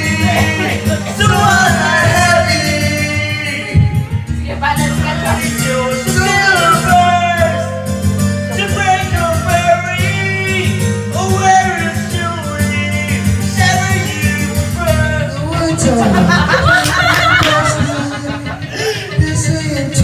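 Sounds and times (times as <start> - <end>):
man singing into microphone: 0.0 - 20.0
pop ballad backing track: 0.0 - 20.0.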